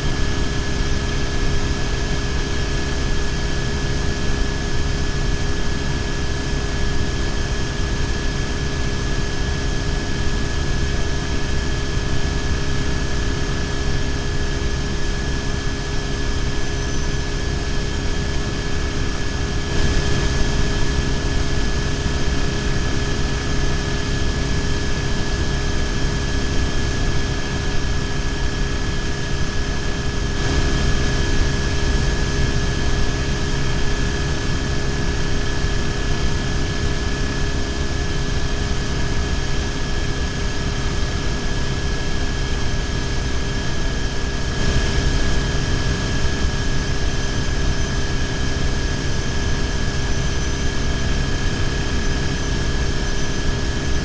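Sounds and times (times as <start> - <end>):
steady high whine: 0.0 - 54.0.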